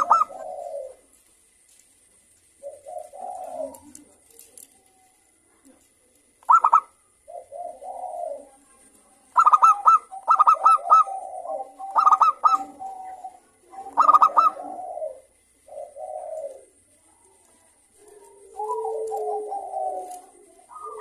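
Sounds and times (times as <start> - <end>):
soft dove coos: 0.0 - 1.3, 2.2 - 21.0
dove singing: 0.0 - 21.0.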